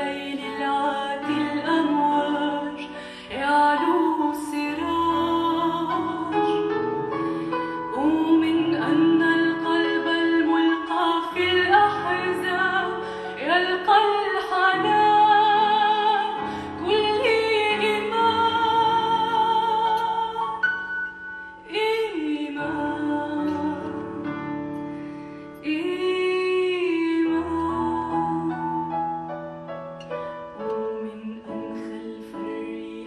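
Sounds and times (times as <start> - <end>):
woman singing a slow ballad: 0.0 - 24.8, 25.6 - 29.3, 30.6 - 33.0
piano accompaniment: 0.0 - 33.0.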